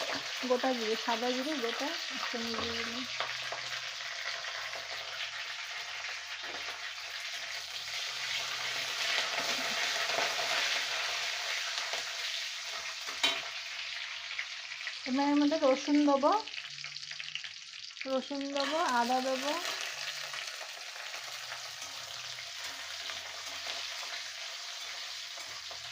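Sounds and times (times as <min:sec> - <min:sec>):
spices sizzling in hot oil: 0:00.0 - 0:25.9.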